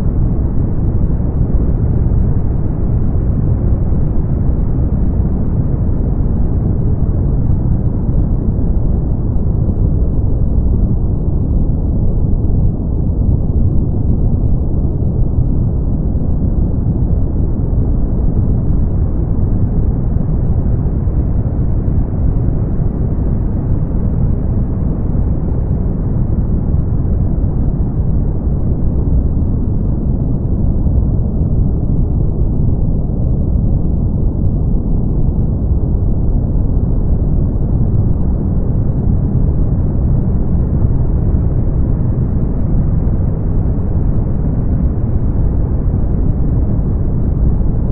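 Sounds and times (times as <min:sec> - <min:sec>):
brown noise: 0:00.0 - 0:47.9.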